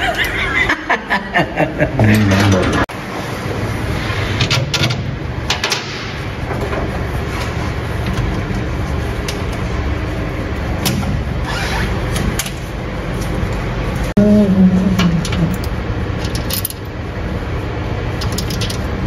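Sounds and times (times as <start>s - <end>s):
low mechanical drone: 0.0s - 19.0s.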